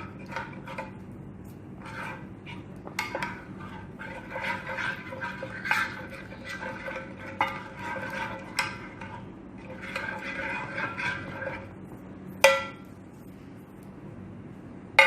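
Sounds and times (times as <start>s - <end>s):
spoon stirring in a bowl: 0.0s - 13.9s.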